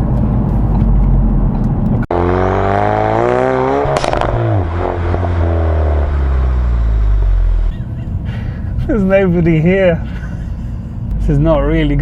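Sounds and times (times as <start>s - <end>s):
car engine revving: 0.0s - 12.0s
exhaust crackle: 0.0s - 12.0s.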